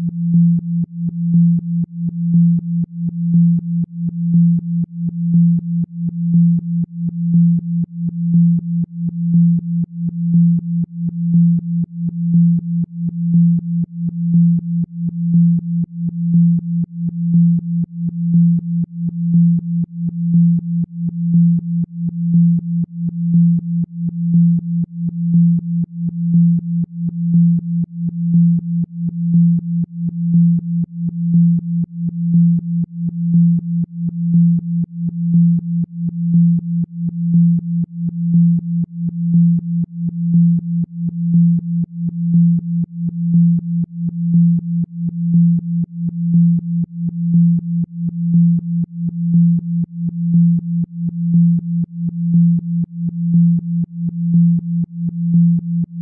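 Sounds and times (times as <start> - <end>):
pulsing low pure tone: 0.0 - 56.0.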